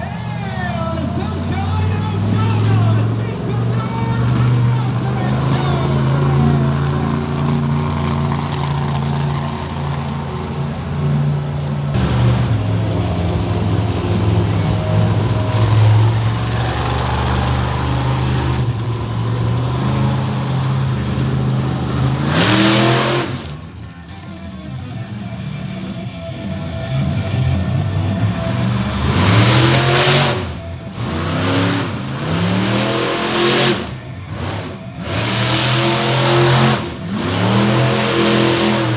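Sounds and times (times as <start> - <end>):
monster truck engine revving: 0.0 - 38.9.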